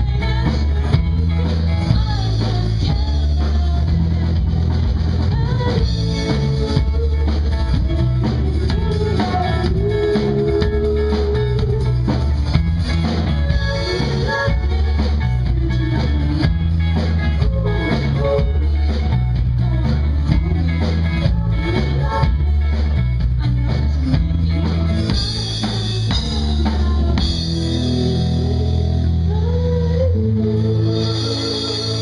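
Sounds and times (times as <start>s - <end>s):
bass guitar: 0.0s - 32.0s
drum kit: 0.0s - 32.0s
electric guitars: 0.0s - 32.0s
woman singing: 0.0s - 32.0s.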